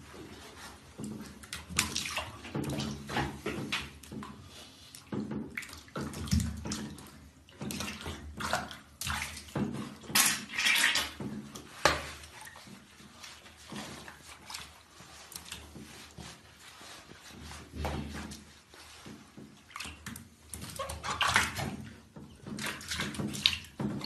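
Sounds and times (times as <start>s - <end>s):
bathwater splashing and sloshing: 0.0s - 24.0s.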